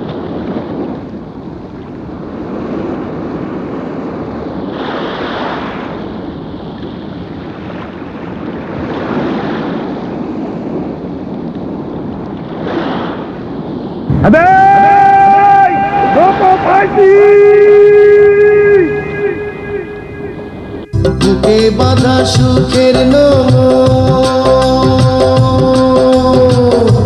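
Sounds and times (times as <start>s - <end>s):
sea waves washing ashore: 0.0s - 27.0s.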